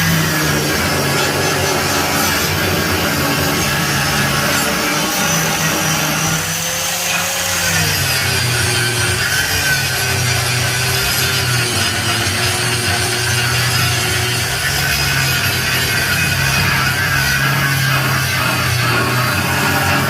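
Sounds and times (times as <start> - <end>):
power tool cutting metal: 0.0 - 20.0.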